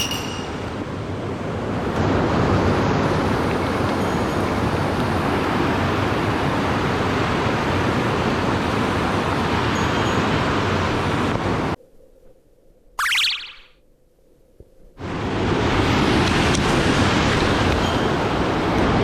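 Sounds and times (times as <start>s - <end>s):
stream water rushing: 0.0s - 11.8s, 15.0s - 19.0s.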